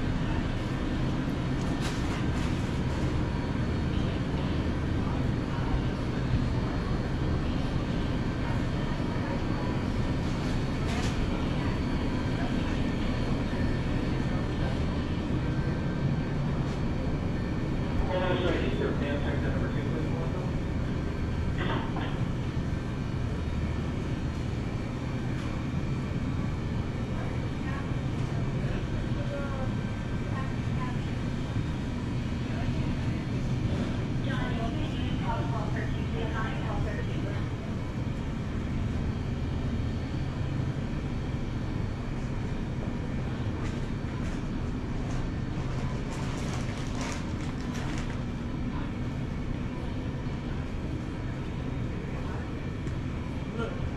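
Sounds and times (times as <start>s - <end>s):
store rumble and hum: 0.0s - 53.9s.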